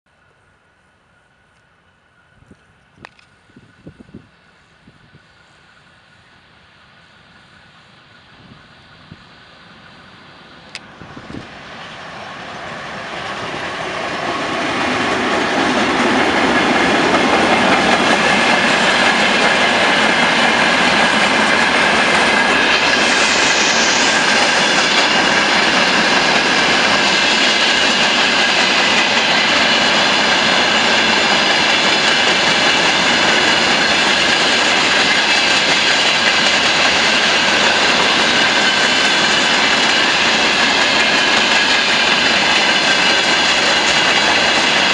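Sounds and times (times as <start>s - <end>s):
freight train rumbling past: 0.1s - 44.9s.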